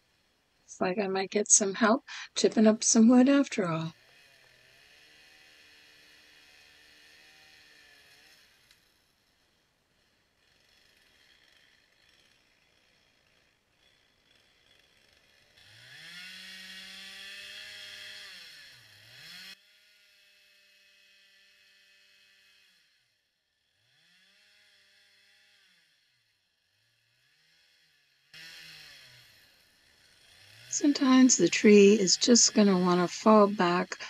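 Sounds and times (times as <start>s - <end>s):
chainsaw revving: 1.8s - 2.3s, 3.3s - 9.3s, 10.0s - 34.0s.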